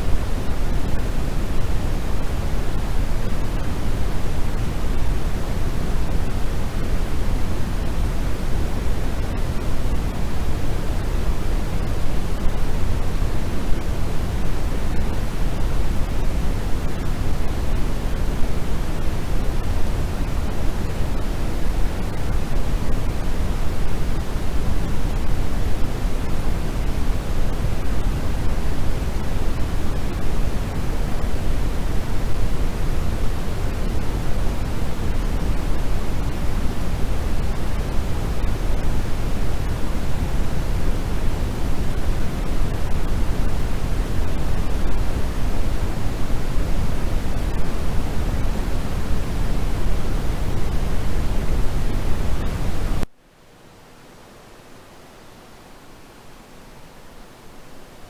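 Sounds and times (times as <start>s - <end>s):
steady pink noise: 0.0s - 58.0s.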